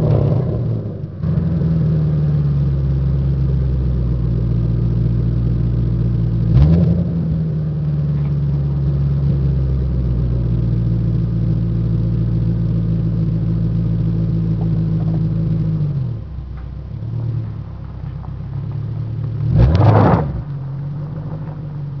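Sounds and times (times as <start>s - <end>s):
car engine revving and idling: 0.0s - 22.0s.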